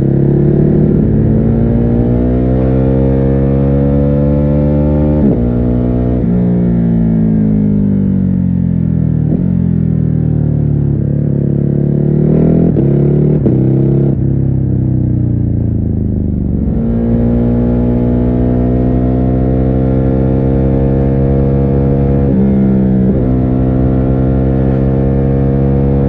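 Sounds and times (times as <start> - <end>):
muffled motorcycle engine: 0.0 - 26.0.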